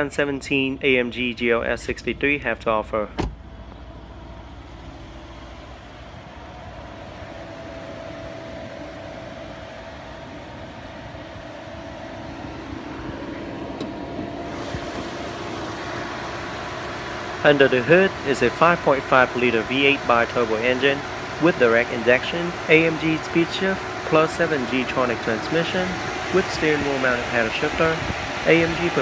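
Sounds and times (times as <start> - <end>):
car engine idling with whine: 0.0 - 29.0.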